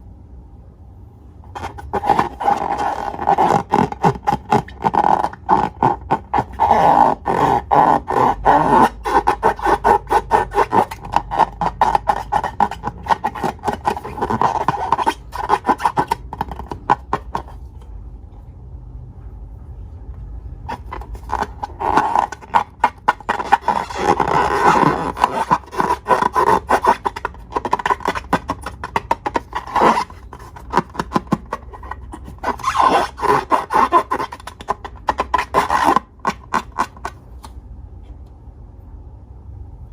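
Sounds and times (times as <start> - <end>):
squeaky rubber rubbing: 1.4 - 17.8, 20.6 - 37.5.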